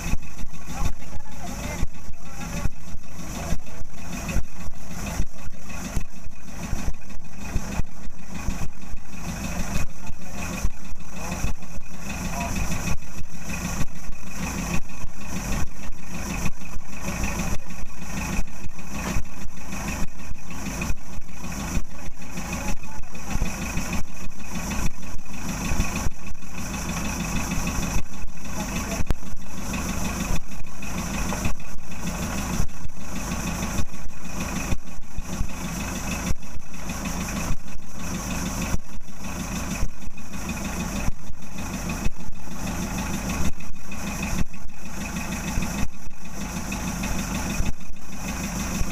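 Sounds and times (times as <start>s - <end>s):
boat engine idling: 0.0s - 48.9s.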